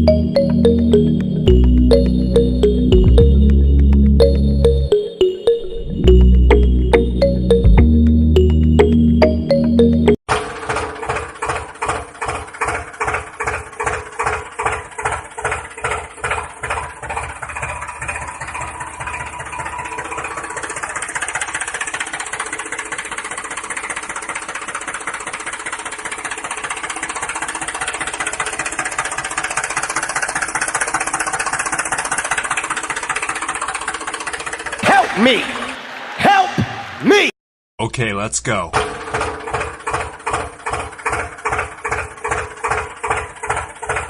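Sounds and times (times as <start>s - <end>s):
engine chugging: 0.0s - 36.1s, 38.6s - 44.0s.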